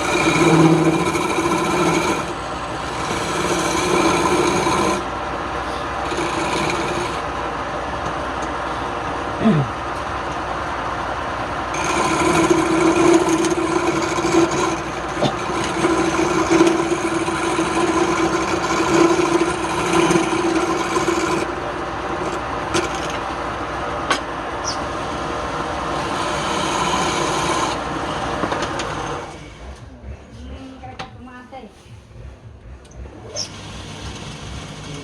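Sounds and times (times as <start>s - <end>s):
tool rasping on spinning wood: 0.0s - 7.4s, 11.6s - 30.9s, 33.3s - 35.0s
wood lathe humming: 0.0s - 30.6s, 32.5s - 35.0s.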